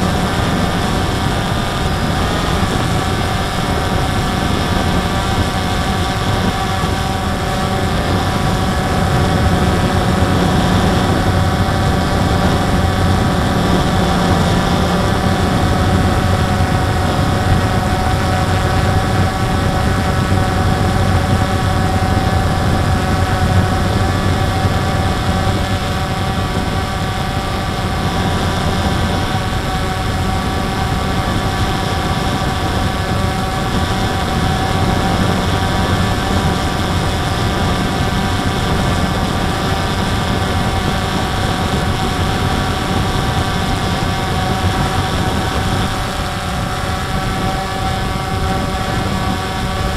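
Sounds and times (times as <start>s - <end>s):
drone propellers whining: 0.0s - 49.9s.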